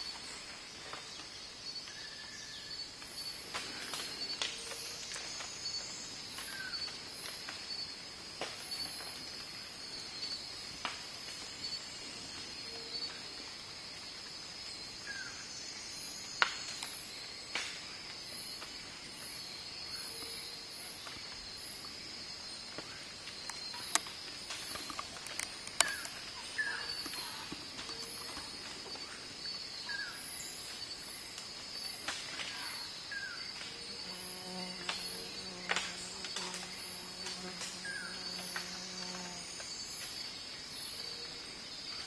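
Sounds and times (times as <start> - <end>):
high-pitched insect chorus: 0.0 - 42.0.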